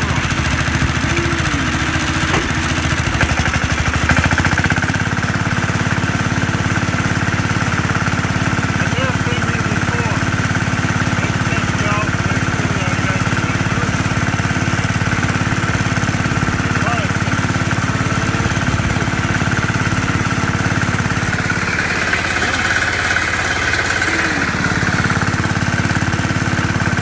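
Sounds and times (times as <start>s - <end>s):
garden tractor engine running: 0.0s - 27.0s.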